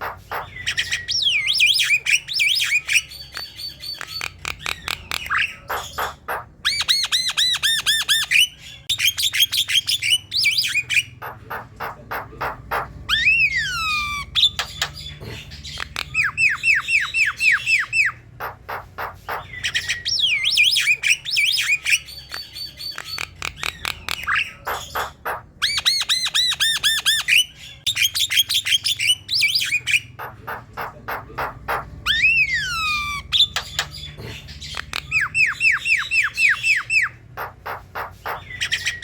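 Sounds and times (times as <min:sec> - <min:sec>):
bird singing varied song: 0:00.0 - 0:39.0.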